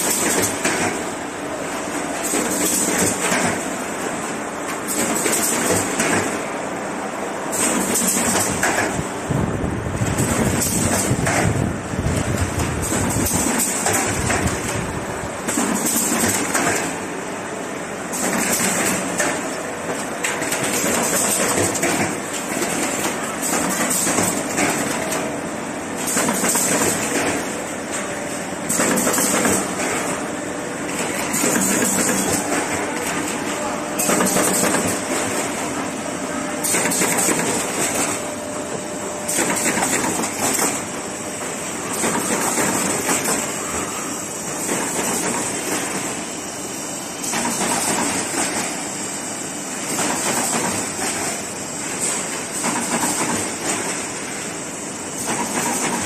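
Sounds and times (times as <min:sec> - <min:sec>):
machine mechanical clatter: 0:00.0 - 0:01.1, 0:01.7 - 0:06.5, 0:07.5 - 0:17.1, 0:18.1 - 0:36.0, 0:36.6 - 0:38.5, 0:39.2 - 0:46.4, 0:47.2 - 0:56.0.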